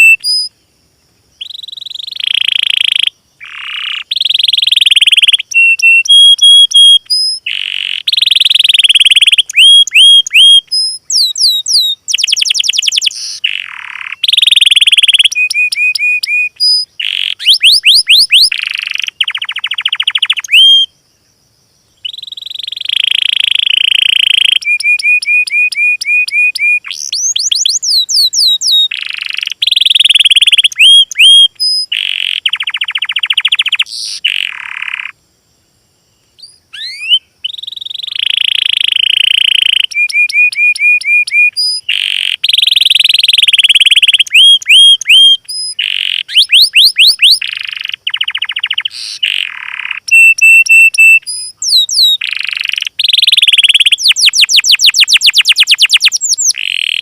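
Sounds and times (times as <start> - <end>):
songbirds singing buzzy trills: 0.0 - 57.0.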